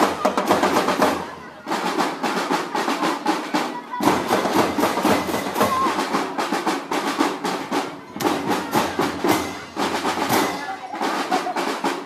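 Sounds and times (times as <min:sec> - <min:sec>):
drum line playing snare strokes: 0:00.0 - 0:12.0.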